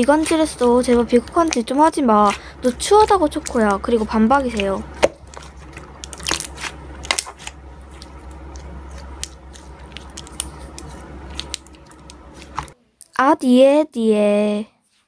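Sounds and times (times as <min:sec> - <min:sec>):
low hum: 0:00.0 - 0:12.8
slime crackling and popping: 0:00.0 - 0:12.8.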